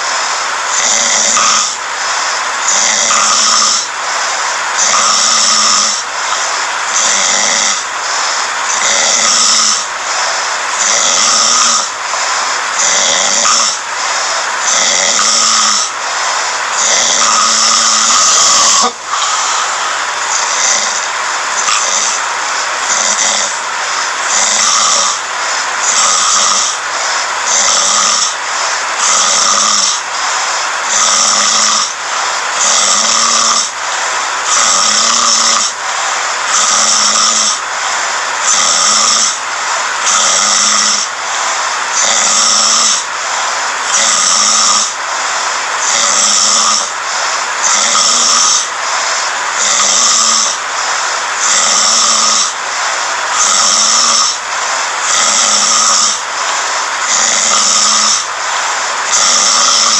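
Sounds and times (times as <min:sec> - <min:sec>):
man snoring: 0:00.0 - 0:59.9.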